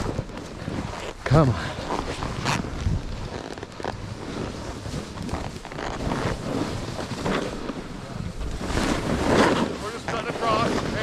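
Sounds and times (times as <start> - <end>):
snowboard edge scraping snow: 0.0 - 11.0
wind rushing over microphone: 0.0 - 11.0.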